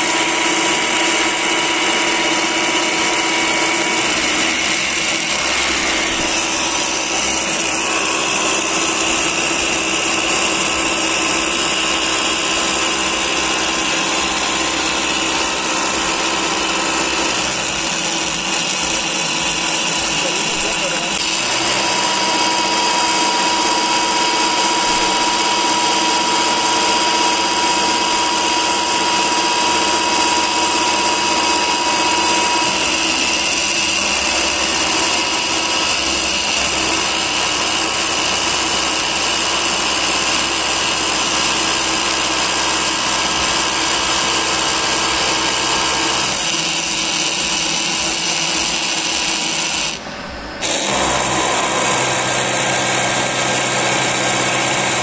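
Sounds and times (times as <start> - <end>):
milling machine cutting steel: 0.0 - 55.0.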